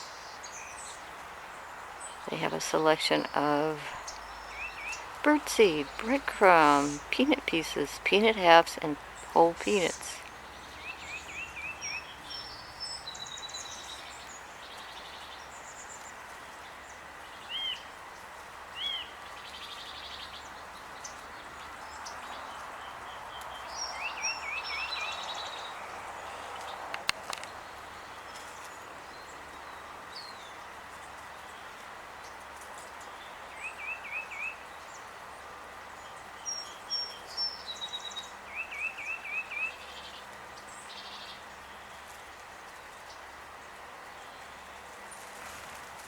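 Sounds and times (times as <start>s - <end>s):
outdoor background hiss: 0.0s - 46.0s
songbirds chirping: 0.0s - 46.0s.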